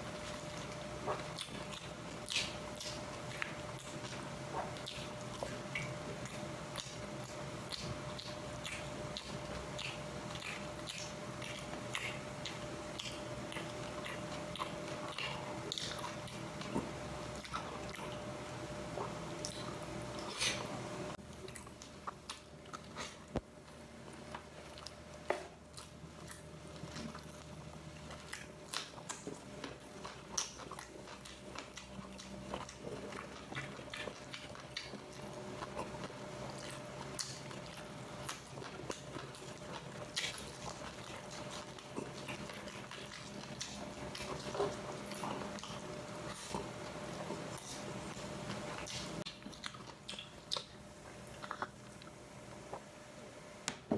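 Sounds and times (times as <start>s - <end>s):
person chewing food: 0.0s - 53.1s
steady background hum: 0.0s - 53.9s.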